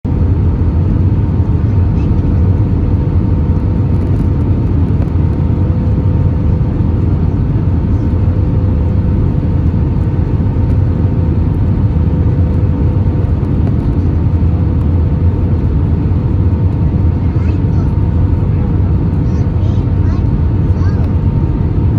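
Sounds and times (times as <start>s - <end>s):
airliner cabin rumble: 0.0s - 21.9s.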